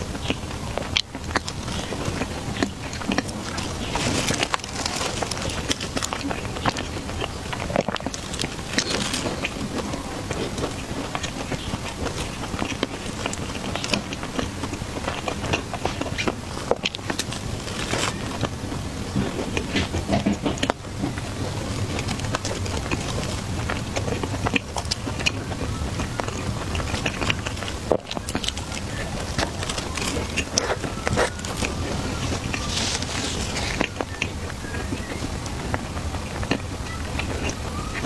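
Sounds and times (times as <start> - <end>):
person chewing food: 0.0 - 38.0
soft steady background noise: 0.0 - 38.0.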